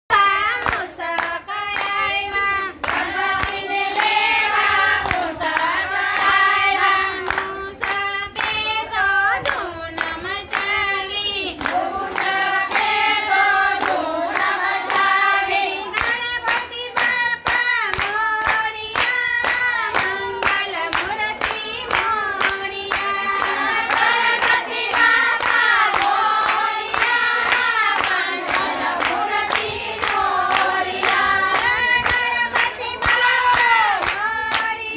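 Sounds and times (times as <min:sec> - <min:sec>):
hands clapping a beat: 0:00.1 - 0:34.9
women singing together: 0:00.1 - 0:34.9.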